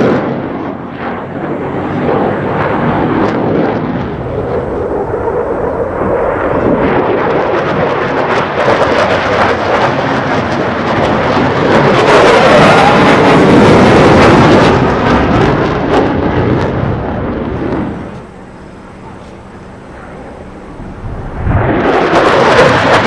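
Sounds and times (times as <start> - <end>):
jet engine roar crackling: 0.0 - 23.0.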